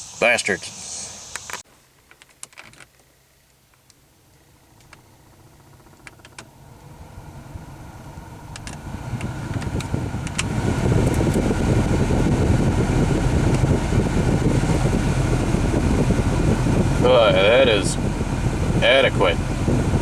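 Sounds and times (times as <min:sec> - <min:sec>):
blower fan spinning: 0:03.9 - 0:20.0.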